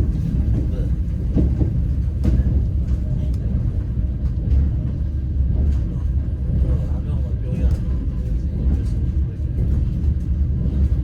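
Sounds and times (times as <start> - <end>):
train rumbling from inside: 0.0 - 11.0.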